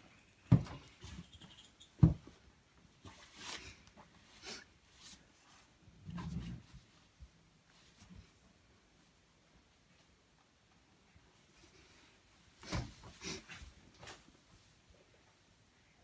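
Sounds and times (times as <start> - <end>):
bedding and clothing rustling: 2.0 - 15.4.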